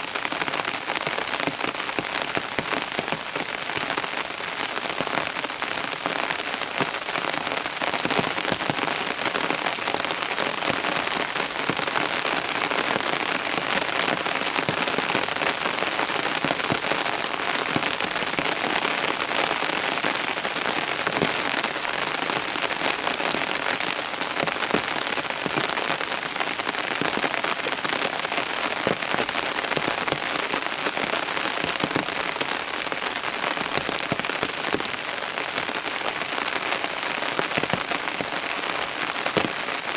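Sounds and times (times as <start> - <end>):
heavy rain on surfaces: 0.0 - 39.9.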